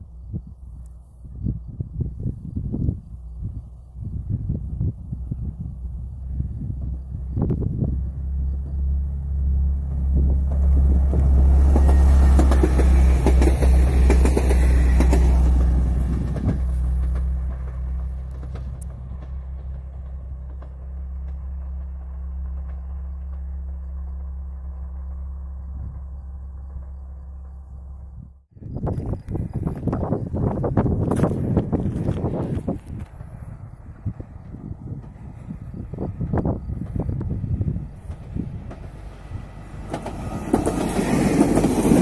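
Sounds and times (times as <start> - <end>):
diesel engine hum: 0.0 - 42.0
train wheels rushing on rails: 3.0 - 27.7, 29.4 - 42.0.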